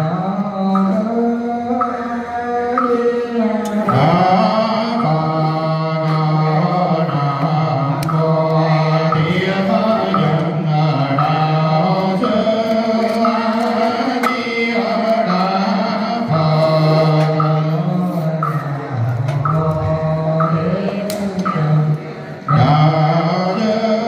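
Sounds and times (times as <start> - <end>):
man chanting through a microphone: 0.0 - 24.0.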